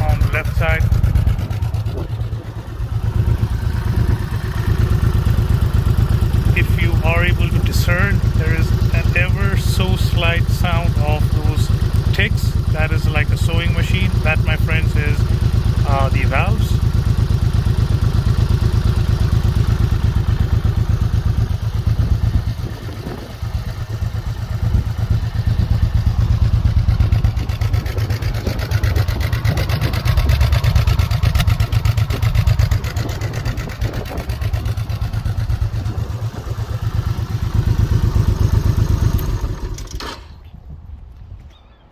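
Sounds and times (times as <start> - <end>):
motorcycle engine running: 0.0 - 40.4.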